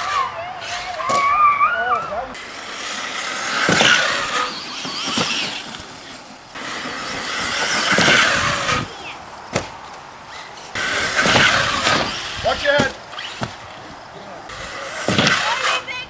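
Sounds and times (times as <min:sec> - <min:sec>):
electric motor whining: 0:00.0 - 0:09.2, 0:10.3 - 0:16.0.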